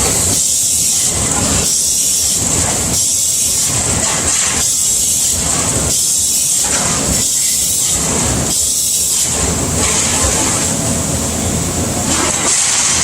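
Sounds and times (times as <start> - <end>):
punch press mechanical bursts: 0.0 - 11.0, 12.0 - 13.0.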